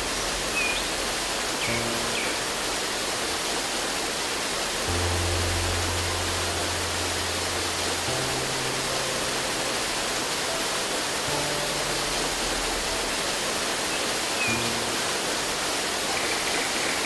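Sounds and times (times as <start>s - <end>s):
soft background music: 0.0s - 3.6s, 4.7s - 17.0s
waterfall rushing: 0.0s - 17.0s.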